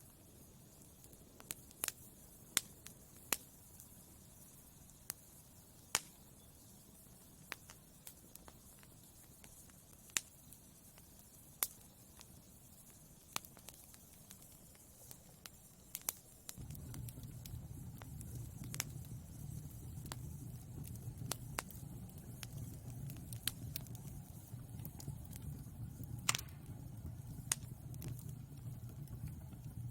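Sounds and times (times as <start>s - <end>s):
low rumble of flames: 0.0s - 29.9s
wood fire crackling and popping: 0.0s - 29.9s.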